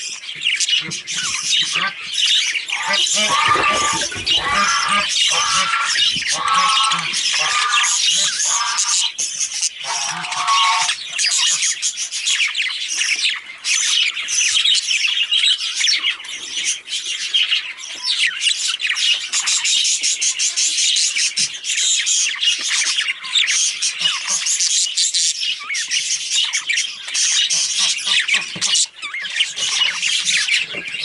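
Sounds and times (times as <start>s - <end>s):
budgerigar chirping and chattering: 0.0s - 31.0s.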